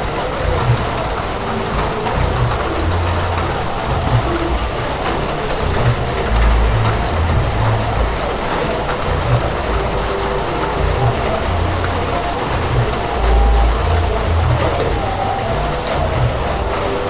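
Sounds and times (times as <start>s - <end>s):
heavy rain hiss: 0.0s - 17.0s
low rumble: 0.0s - 17.0s.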